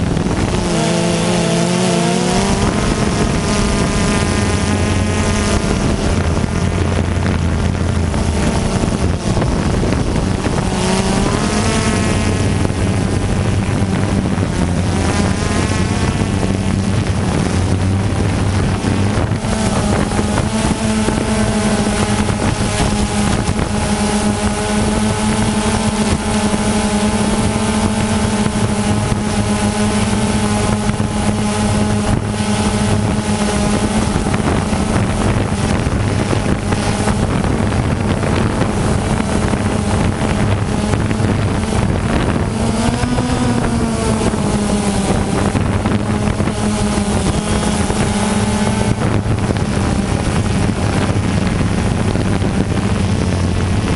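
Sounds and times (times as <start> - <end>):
drone propellers buzzing: 0.0 - 53.9
wind noise on microphone: 0.0 - 53.9.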